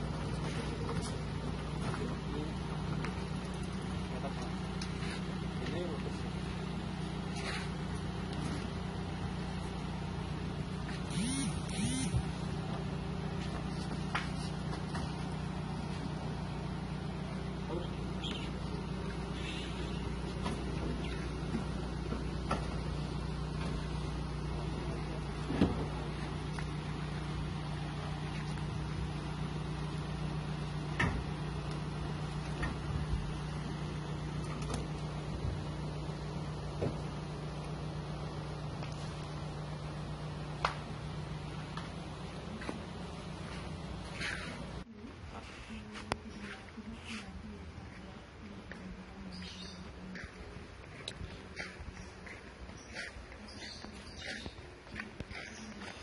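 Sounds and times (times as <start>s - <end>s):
engine idling hum: 0.0s - 56.0s.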